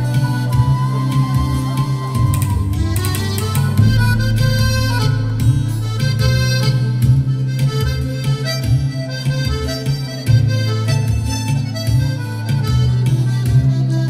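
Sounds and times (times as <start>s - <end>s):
button accordion playing a tune: 0.0s - 14.0s
hand percussion beat: 0.0s - 14.0s
held low bass notes: 0.0s - 14.0s.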